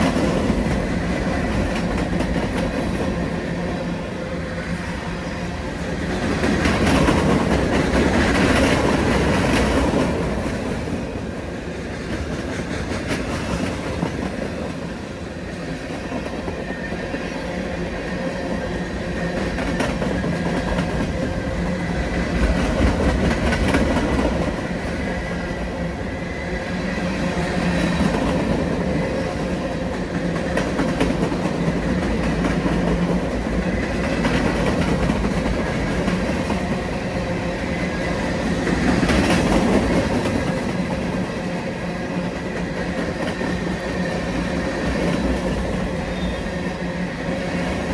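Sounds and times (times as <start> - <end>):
train passing: 0.0 - 47.9.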